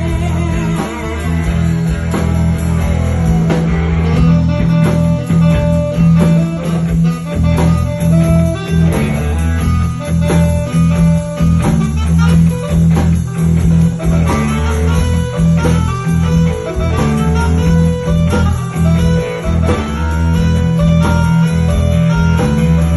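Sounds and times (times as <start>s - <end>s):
bass line: 0.0s - 22.9s
drums: 0.0s - 22.9s
guitars: 0.0s - 22.9s.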